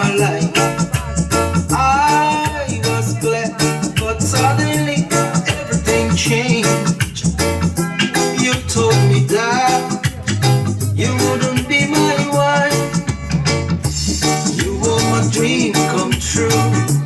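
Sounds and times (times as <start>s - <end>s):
heavy bass line: 0.0s - 17.0s
reggae song with sung vocal: 0.0s - 17.0s.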